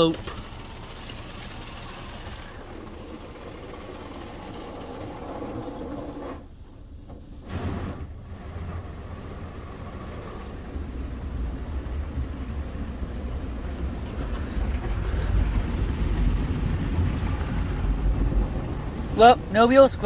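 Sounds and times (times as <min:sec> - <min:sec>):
car wash rumble: 0:00.0 - 0:20.0.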